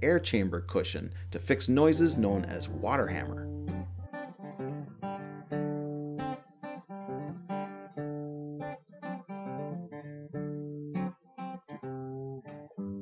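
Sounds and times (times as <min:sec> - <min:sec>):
guitar plucking a tune: 0:00.5 - 0:13.0.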